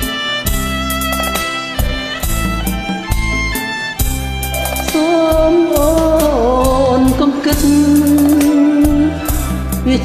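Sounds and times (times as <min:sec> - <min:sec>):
pop backing track drum beat: 0:00.0 - 0:10.0.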